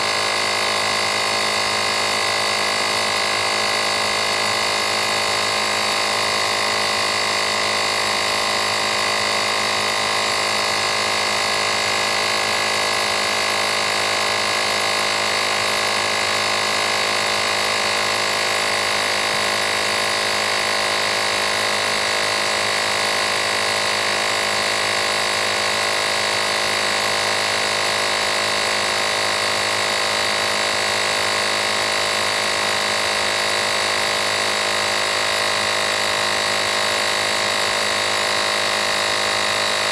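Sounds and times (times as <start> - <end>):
tire inflator compressor humming: 0.0 - 39.9.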